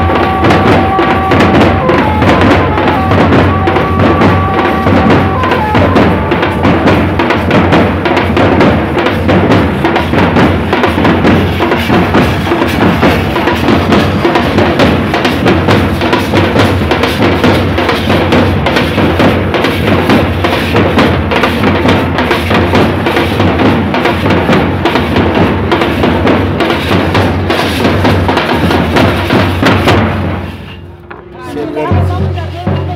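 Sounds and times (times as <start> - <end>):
deep drum: 0.0 - 30.4
fast loud drumming: 0.0 - 30.7, 31.5 - 32.9.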